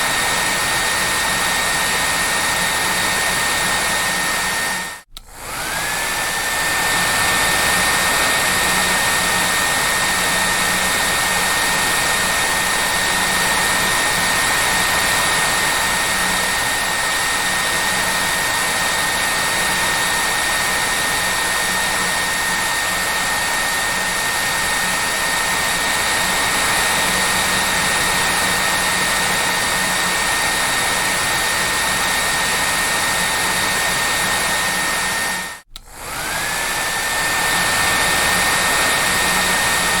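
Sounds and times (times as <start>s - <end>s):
hair dryer blowing and whining: 0.0s - 40.0s.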